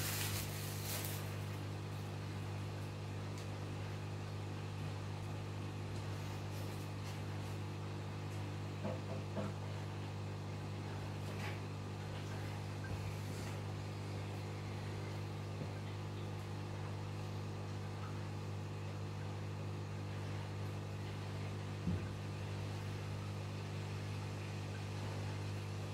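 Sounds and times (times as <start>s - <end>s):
aquarium equipment humming: 0.0s - 25.9s.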